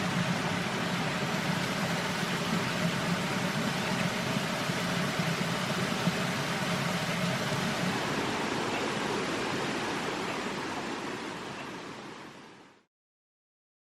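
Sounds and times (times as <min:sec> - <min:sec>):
steady rushing noise: 0:00.0 - 0:12.3.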